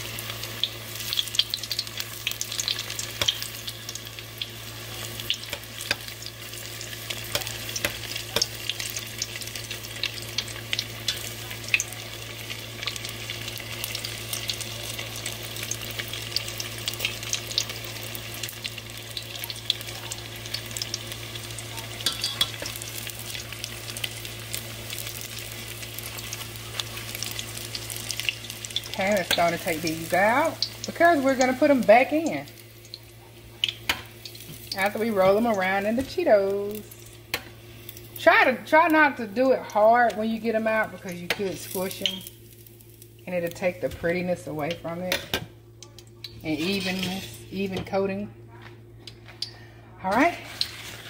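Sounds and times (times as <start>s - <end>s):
food deep-frying in hot oil: 0.0s - 48.2s, 48.8s - 51.0s
sizzle with popping crackles: 0.0s - 51.0s.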